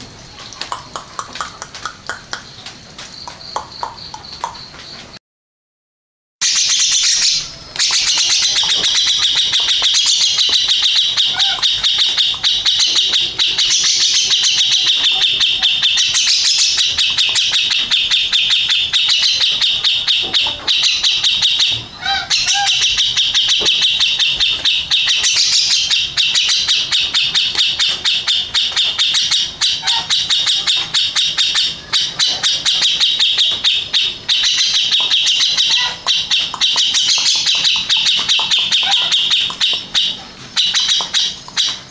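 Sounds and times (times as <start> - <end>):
bird singing fast chatter: 0.3 - 5.1, 6.4 - 41.9.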